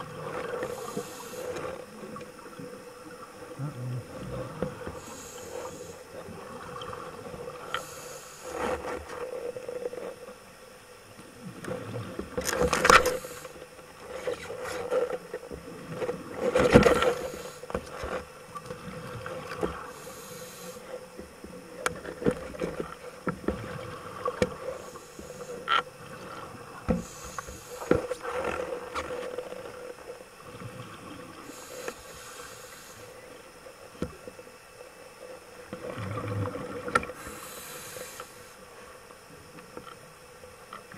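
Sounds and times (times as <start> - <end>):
underwater low hum: 0.0 - 40.9.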